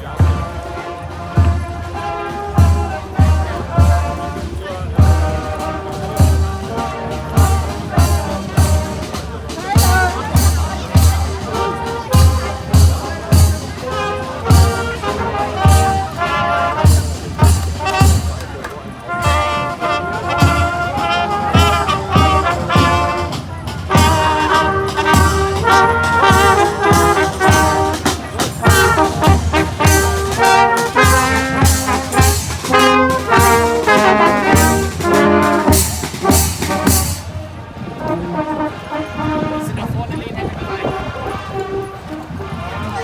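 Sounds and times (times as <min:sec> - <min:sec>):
brass band playing a march: 0:00.0 - 0:43.0.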